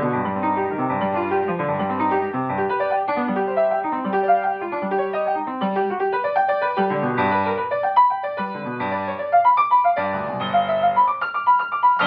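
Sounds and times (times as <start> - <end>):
classical piano piece: 0.0 - 12.0.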